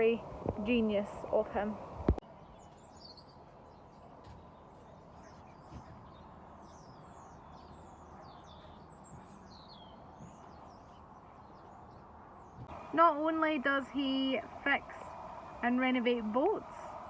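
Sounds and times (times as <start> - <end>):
faint low background noise: 0.0 - 17.0
small birds chirping: 0.0 - 17.0.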